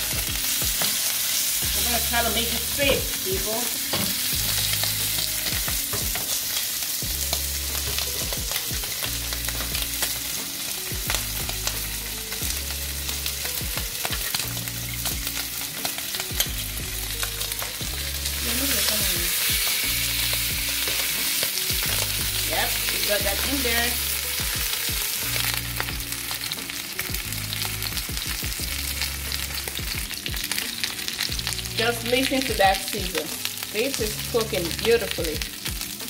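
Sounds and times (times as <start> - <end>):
fish searing in hot oil: 0.0 - 36.0.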